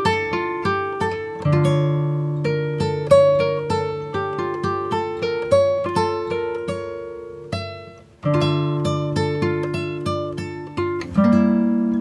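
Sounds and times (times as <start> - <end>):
acoustic guitar plucking: 0.0 - 12.0.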